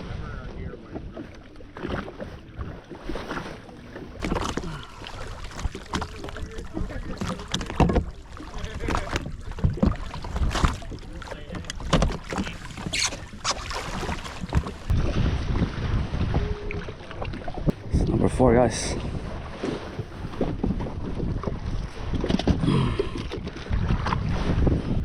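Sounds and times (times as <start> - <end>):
wind buffeting microphone: 4.2 - 25.0.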